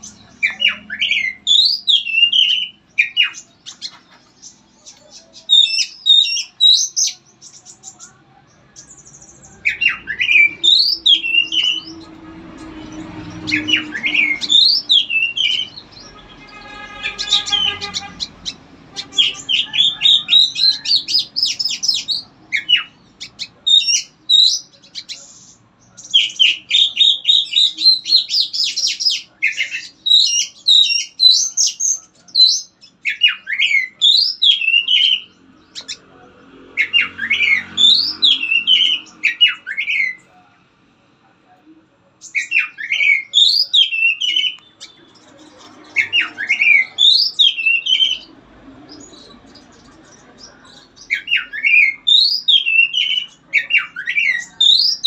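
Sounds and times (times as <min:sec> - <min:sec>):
songbird singing: 0:00.0 - 0:40.6, 0:41.6 - 0:55.0.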